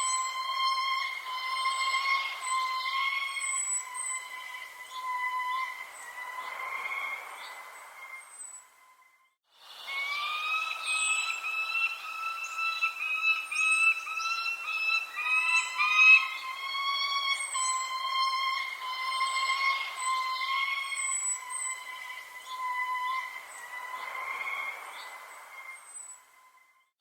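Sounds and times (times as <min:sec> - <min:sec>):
birds chirping: 0:00.0 - 0:26.9
steady whistle-like tone: 0:00.0 - 0:26.9.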